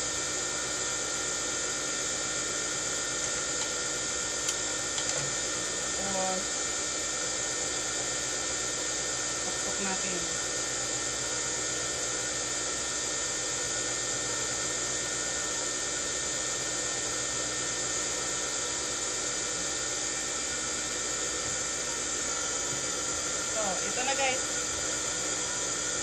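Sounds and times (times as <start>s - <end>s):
small electric motor whirring: 0.0s - 26.0s.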